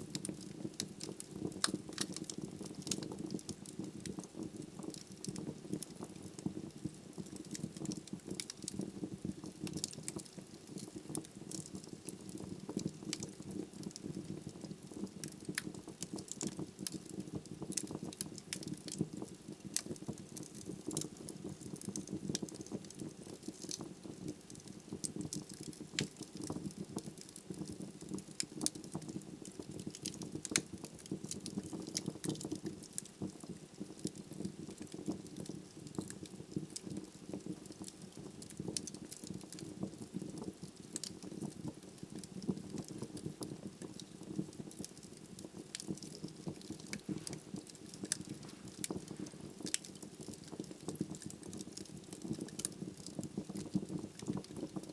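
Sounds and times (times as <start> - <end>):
fire rumbling: 0.0 - 54.9
logs crackling and popping: 0.0 - 54.9.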